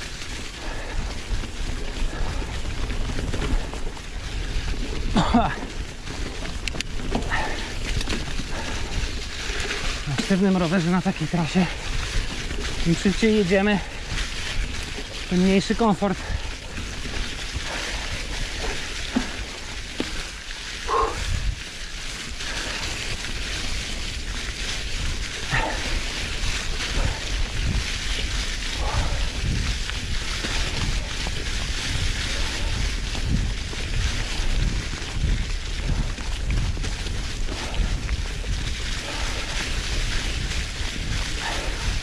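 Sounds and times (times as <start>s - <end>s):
bike thumping and rattling: 0.0s - 42.0s
bike tyres rolling over dry leaves: 0.0s - 42.0s
wind buffeting microphone: 0.0s - 42.0s.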